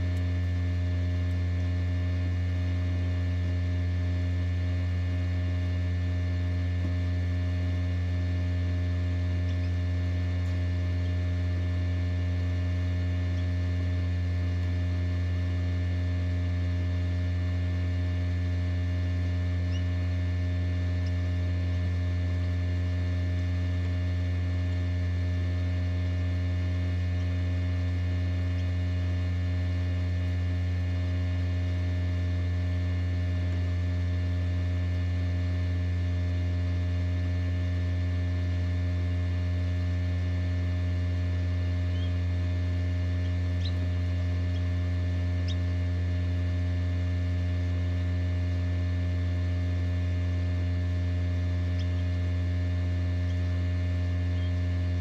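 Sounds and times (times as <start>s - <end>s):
incubator electrical hum: 0.0s - 55.0s.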